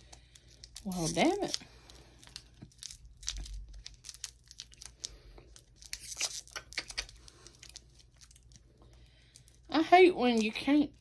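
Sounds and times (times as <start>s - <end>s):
candy wrapper crinkling: 0.0s - 11.0s.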